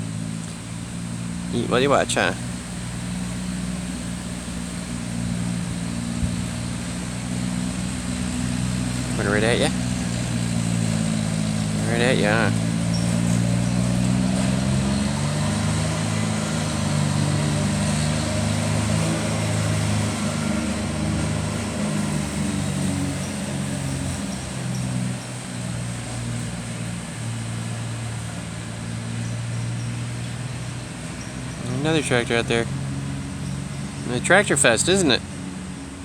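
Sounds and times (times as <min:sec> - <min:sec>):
riding lawn mower engine: 0:00.0 - 0:36.0.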